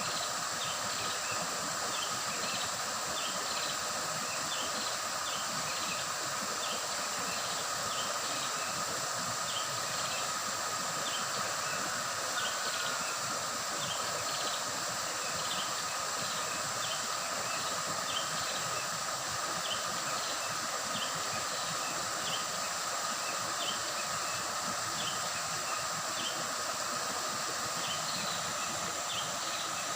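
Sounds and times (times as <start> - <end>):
high insect drone: 0.0 - 29.9
stream gurgling over rocks: 0.0 - 29.9.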